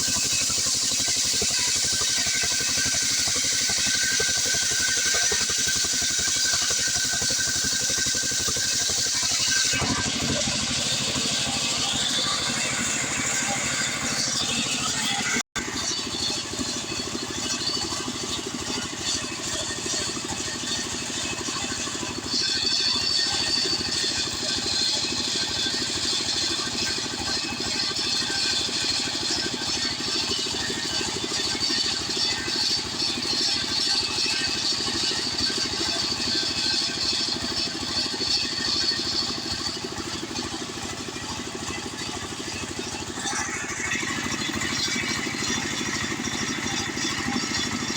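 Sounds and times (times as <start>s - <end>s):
chainsaw sawing a log: 0.0s - 47.9s.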